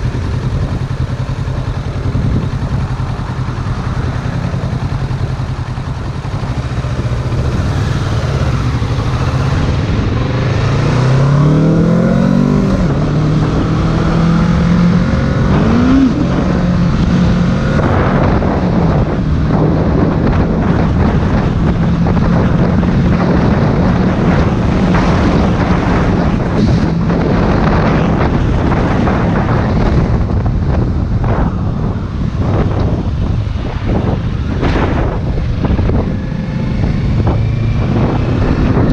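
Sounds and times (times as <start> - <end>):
motorcycle engine accelerating: 0.0 - 38.9
wind buffeting microphone: 0.0 - 38.9.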